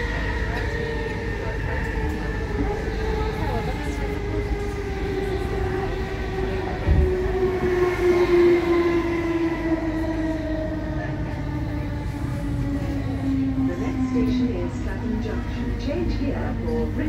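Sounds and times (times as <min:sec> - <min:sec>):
electric train rumble and whine: 0:00.0 - 0:17.0.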